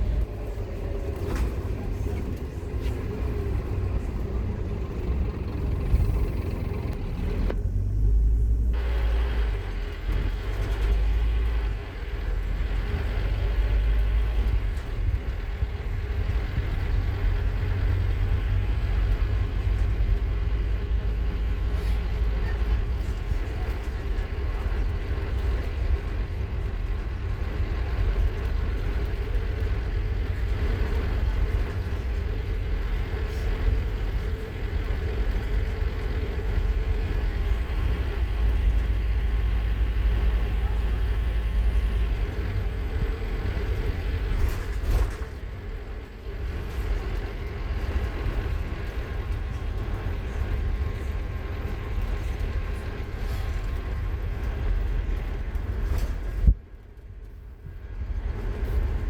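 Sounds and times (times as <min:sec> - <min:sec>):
bus diesel engine running: 0:00.0 - 0:59.0
road noise: 0:00.0 - 0:59.0.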